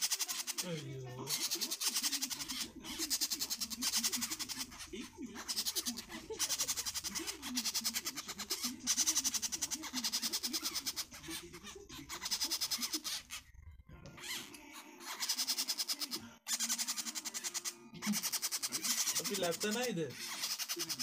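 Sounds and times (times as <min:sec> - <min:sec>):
parrot chicks begging calls: 0:00.0 - 0:13.5, 0:14.2 - 0:21.0.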